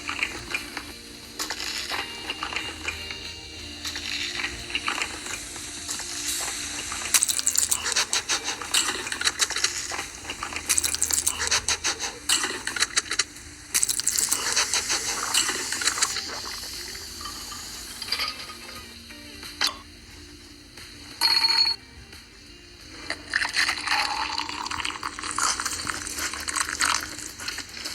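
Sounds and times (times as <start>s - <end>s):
food and utensils clinking: 0.0s - 20.0s, 21.2s - 21.8s, 23.0s - 27.9s.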